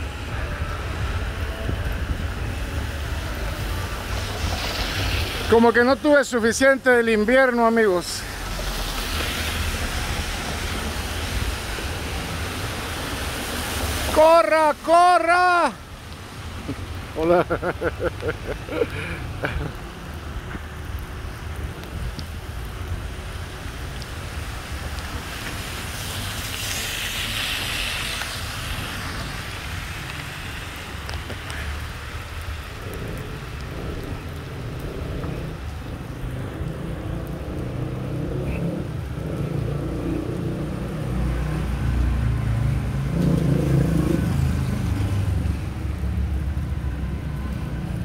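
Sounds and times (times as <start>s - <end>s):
rain hissing: 0.0s - 48.0s.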